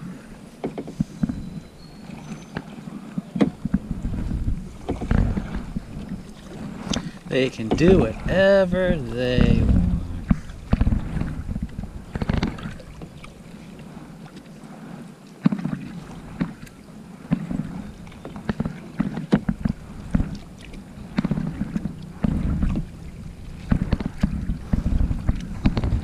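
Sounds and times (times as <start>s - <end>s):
paddle splashing water: 0.0s - 26.0s.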